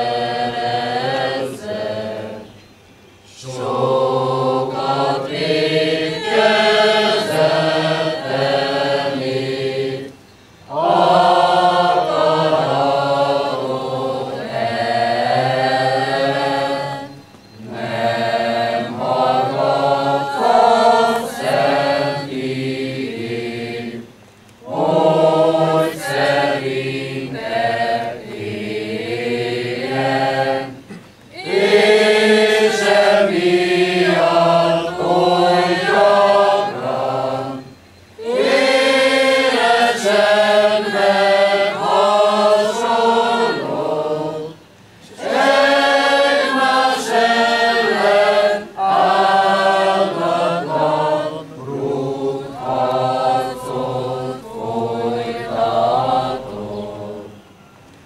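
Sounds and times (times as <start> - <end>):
mixed choir singing a hymn: 0.0 - 57.7.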